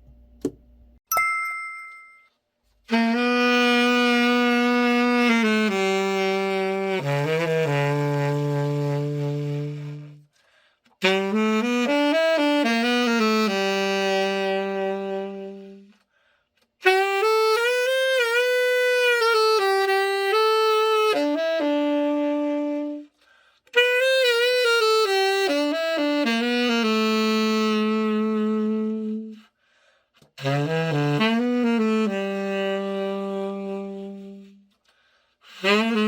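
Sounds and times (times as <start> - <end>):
tenor saxophone solo: 2.8 - 36.0.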